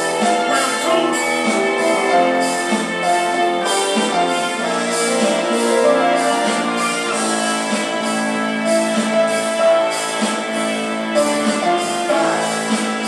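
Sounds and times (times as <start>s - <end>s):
workout music with steady beat: 0.0s - 13.0s.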